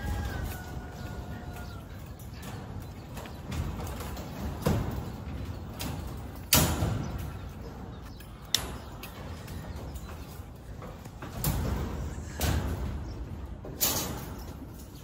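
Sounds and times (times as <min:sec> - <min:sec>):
steel rebar clanking and scraping: 0:00.0 - 0:15.0.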